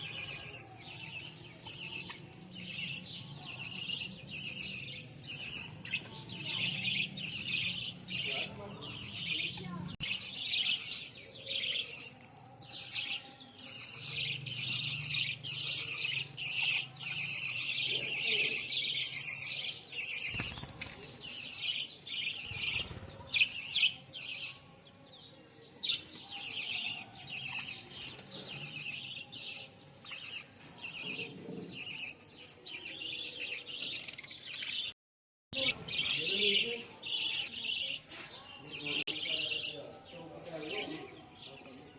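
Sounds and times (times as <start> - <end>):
budgerigars chattering and warbling: 0.0 - 24.8, 25.5 - 34.9, 35.6 - 41.9.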